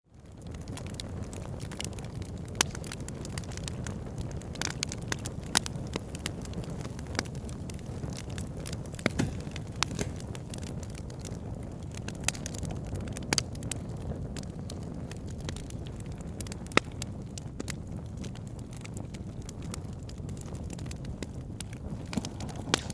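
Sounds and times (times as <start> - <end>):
fire crackling and popping: 0.1 - 22.9
low rumble of flames: 0.1 - 22.9.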